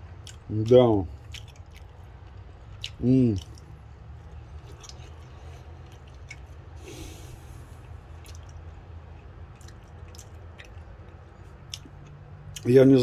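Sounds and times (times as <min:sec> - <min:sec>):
person chewing food: 0:00.0 - 0:12.7
steady low hum: 0:00.0 - 0:13.0.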